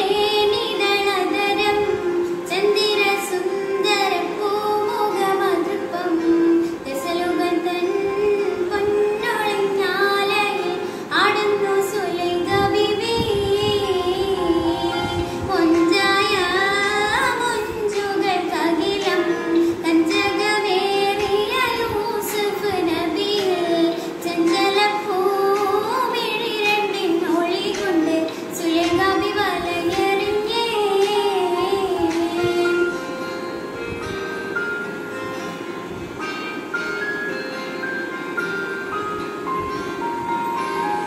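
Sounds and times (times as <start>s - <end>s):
girl singing: 0.0s - 34.1s.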